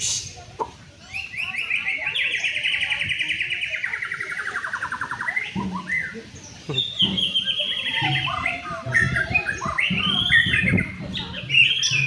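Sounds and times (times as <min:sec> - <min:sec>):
bird singing rapid notes: 0:01.0 - 0:12.0.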